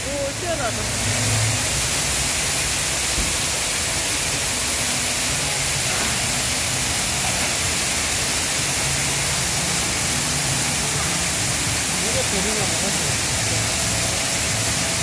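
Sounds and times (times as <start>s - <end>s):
car wash jets spraying water: 0.0s - 15.0s.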